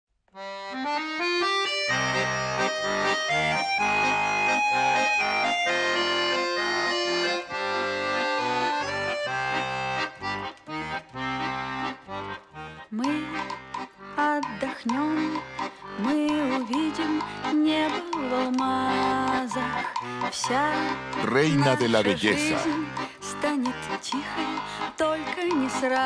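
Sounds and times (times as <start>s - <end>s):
accordion: 0.3s - 26.0s.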